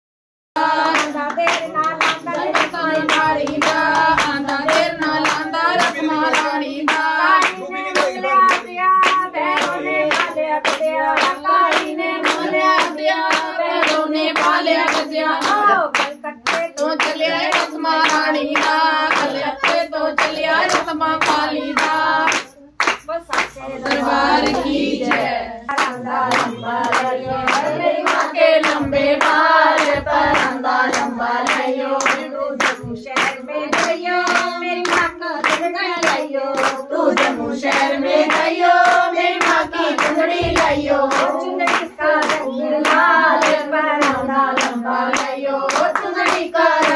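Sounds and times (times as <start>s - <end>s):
voices singing in chorus: 0.6s - 22.7s, 23.4s - 46.9s
steady hand clapping: 0.6s - 46.9s.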